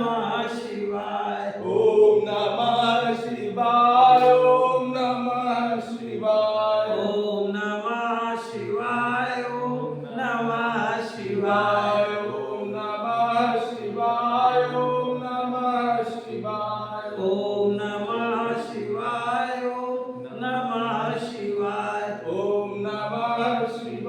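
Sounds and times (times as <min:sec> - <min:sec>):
voices chanting together: 0:00.0 - 0:24.0.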